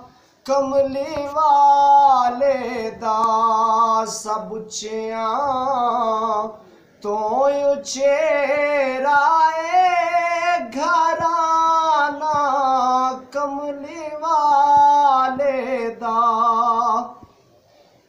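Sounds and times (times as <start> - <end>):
man singing unaccompanied: 0.0 - 17.3.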